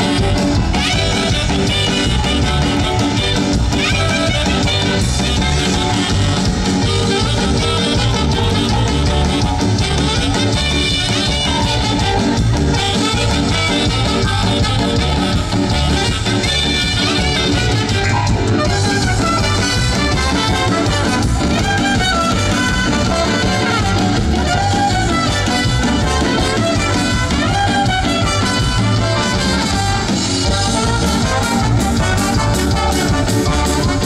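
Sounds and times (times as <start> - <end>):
loud latin dance music: 0.0 - 34.0.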